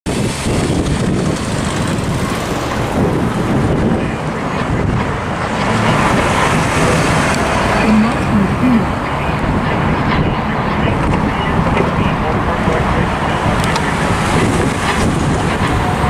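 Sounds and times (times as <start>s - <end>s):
cars driving past: 0.1s - 16.0s
wind buffeting microphone: 0.1s - 16.0s.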